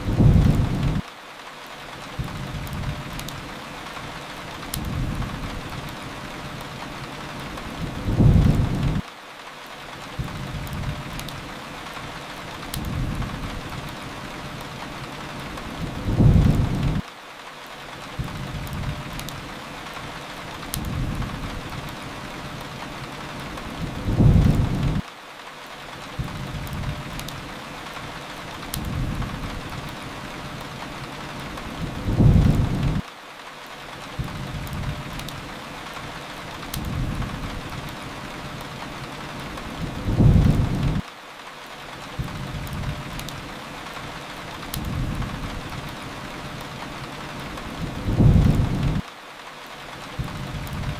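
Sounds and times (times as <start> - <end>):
rain hiss: 0.0 - 50.9
faint sharp crackles: 0.2 - 50.9.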